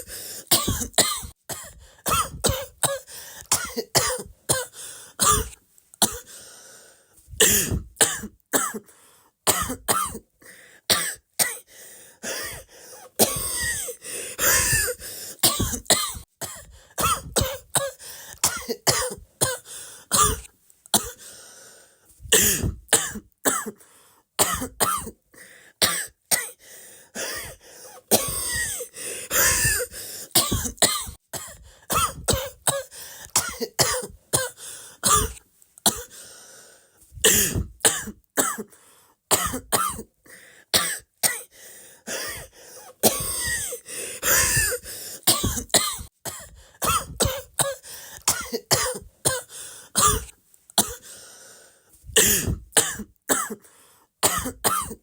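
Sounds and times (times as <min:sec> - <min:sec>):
person coughing: 0:00.0 - 0:06.4, 0:07.4 - 0:08.9, 0:09.5 - 0:10.3, 0:10.9 - 0:21.3, 0:22.3 - 0:23.8, 0:24.4 - 0:25.2, 0:27.2 - 0:36.2, 0:37.2 - 0:38.7, 0:39.3 - 0:40.1, 0:42.1 - 0:51.1, 0:52.1 - 0:55.0.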